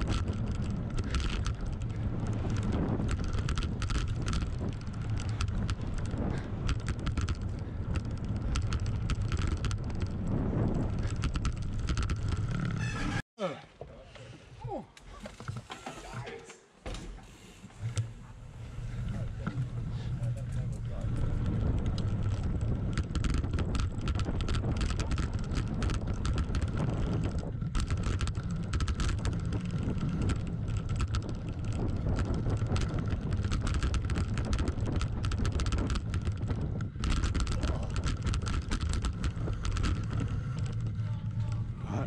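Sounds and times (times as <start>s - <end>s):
bike clicking and rattling: 0.0s - 13.2s, 15.0s - 42.0s
tyres rumbling over dirt trail: 0.0s - 13.2s, 17.7s - 42.0s
wind buffeting microphone: 0.0s - 13.2s, 17.8s - 42.0s.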